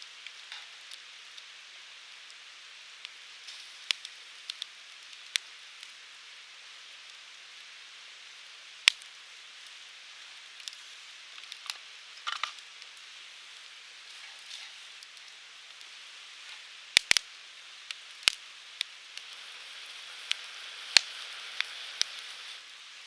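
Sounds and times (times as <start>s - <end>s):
campfire crackling: 0.1s - 23.0s.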